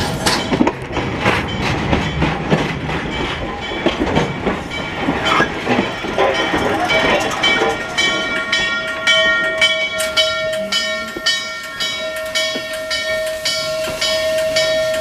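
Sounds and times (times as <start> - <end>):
locomotive bell ringing: 0.0 - 15.0.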